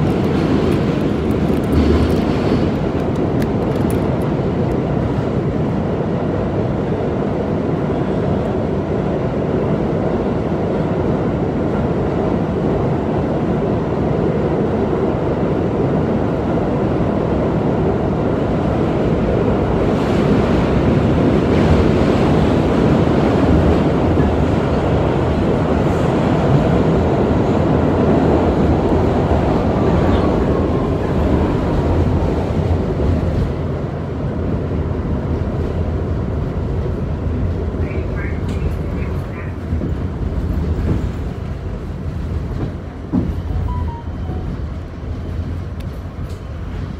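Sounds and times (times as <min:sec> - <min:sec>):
subway wheels rumbling on track: 0:00.0 - 0:46.9.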